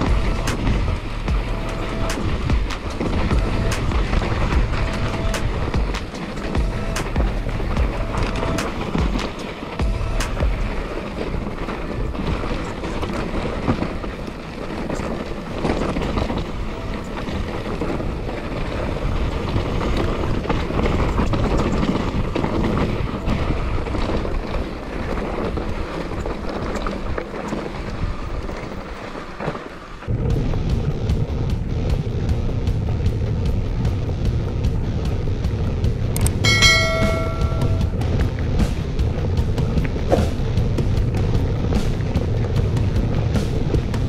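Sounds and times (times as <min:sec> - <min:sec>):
bike tyres clattering over stones: 0:00.0 - 0:44.0
wind buffeting microphone: 0:00.0 - 0:44.0.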